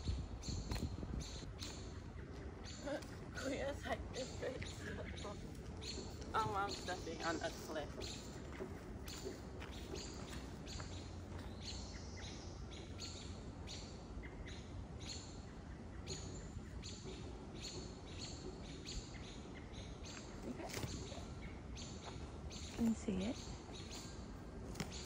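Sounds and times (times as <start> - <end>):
low background rumble: 0.0 - 25.0
small bird chirping: 0.0 - 25.0.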